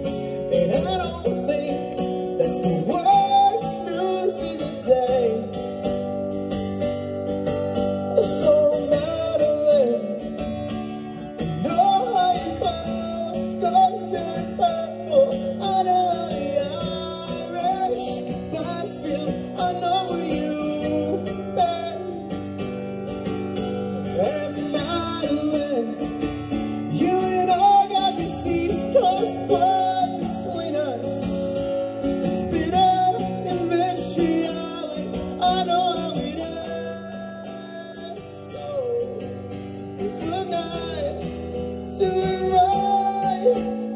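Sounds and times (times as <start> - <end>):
man singing: 0.0 - 6.4, 7.6 - 43.9
strummed acoustic guitars: 0.0 - 43.9.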